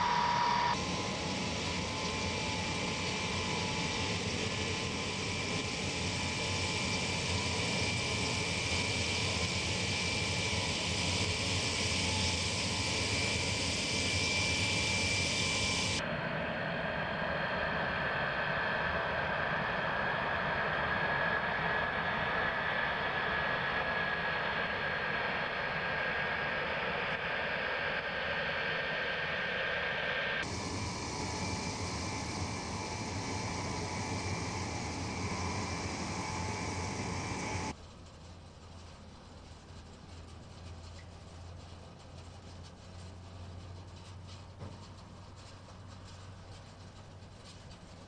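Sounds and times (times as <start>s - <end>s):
distant jet engines whining: 0.0s - 38.8s.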